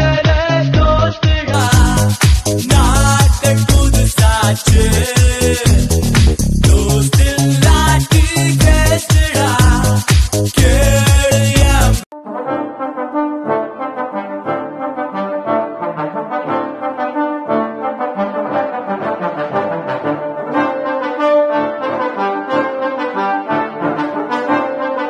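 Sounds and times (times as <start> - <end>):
lively brass music: 0.0 - 25.0.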